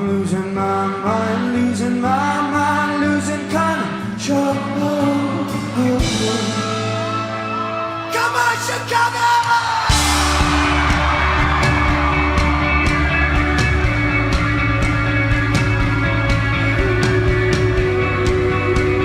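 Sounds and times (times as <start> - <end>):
live rock band playing: 3.6 - 19.0.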